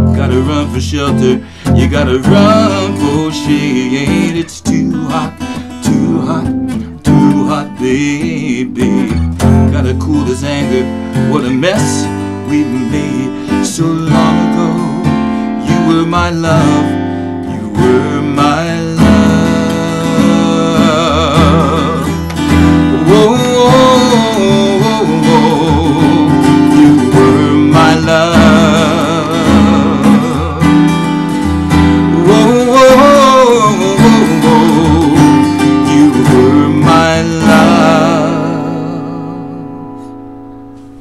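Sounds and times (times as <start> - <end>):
man singing with vibrato: 0.0 - 40.2
acoustic guitar strummed: 0.0 - 41.0.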